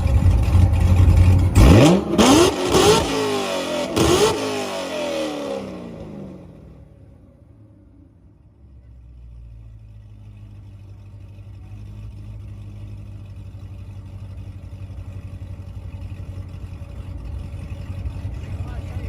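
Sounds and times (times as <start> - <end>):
car engine deep rumble: 0.0 - 19.0.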